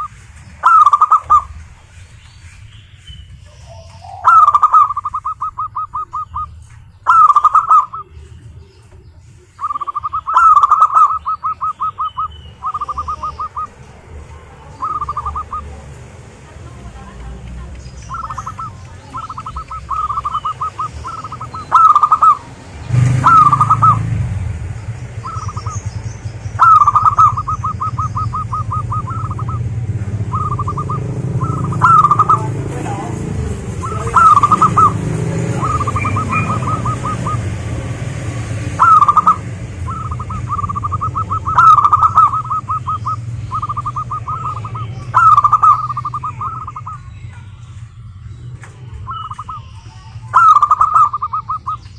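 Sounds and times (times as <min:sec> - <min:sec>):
doves cooing: 0:00.0 - 0:01.9, 0:03.3 - 0:51.9.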